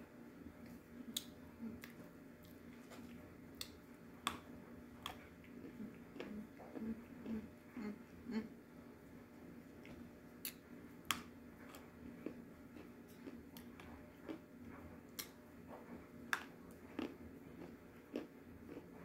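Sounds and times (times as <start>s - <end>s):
person chewing crunchy food: 0.6s - 8.4s, 9.7s - 19.0s.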